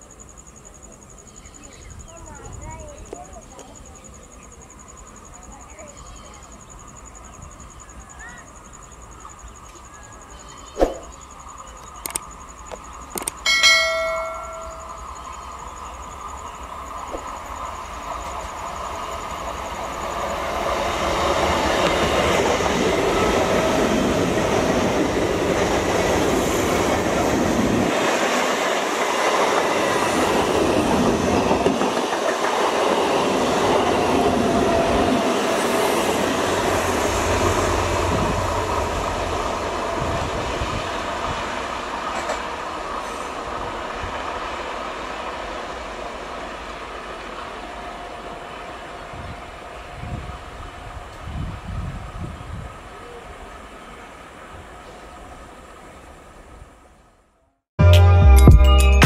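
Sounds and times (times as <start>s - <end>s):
train passing at speed: 0.0s - 57.5s.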